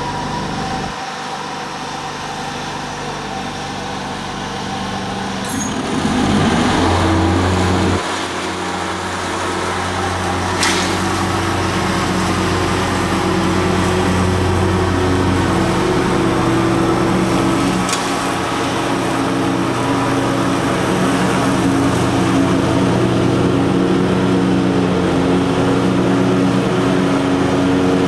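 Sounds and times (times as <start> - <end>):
leaf vacuum motor running: 0.0 - 28.0.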